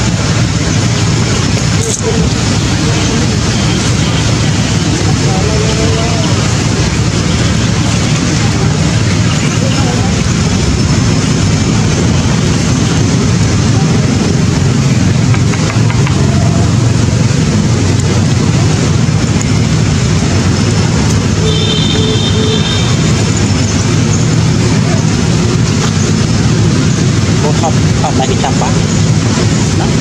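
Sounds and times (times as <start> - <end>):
steady traffic engine noise: 0.0 - 30.0.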